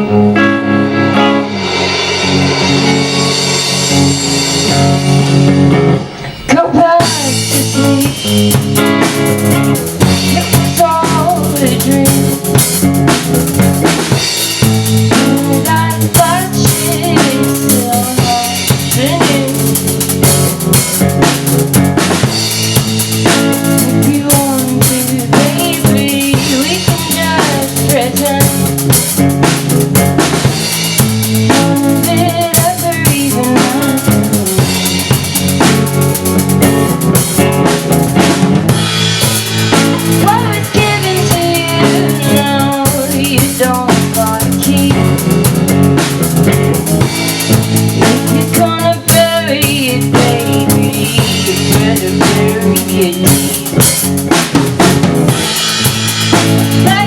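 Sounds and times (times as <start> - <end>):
drum kit beat: 0.0 - 57.0
guitar: 0.0 - 57.0.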